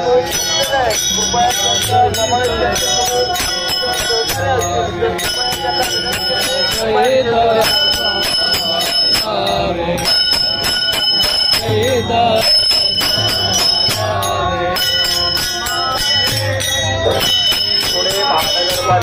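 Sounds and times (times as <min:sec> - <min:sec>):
hand cymbals struck in rhythm: 0:00.0 - 0:19.0
men chanting singing: 0:00.0 - 0:19.0.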